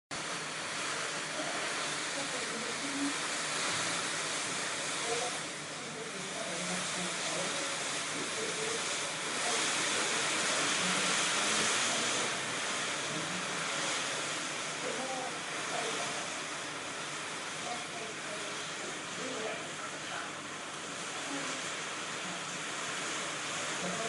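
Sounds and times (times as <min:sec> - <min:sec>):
heavy rain hissing: 0:00.1 - 0:24.0.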